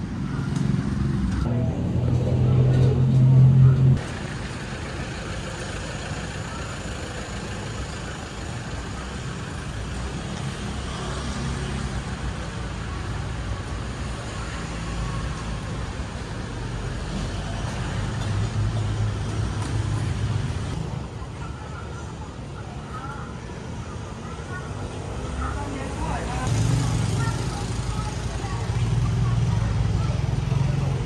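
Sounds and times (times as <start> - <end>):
passing vehicles rumbling: 0.0 - 31.0.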